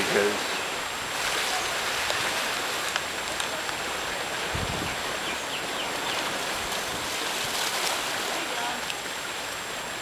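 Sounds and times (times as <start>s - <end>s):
sea water lapping on rocks: 0.0s - 9.9s.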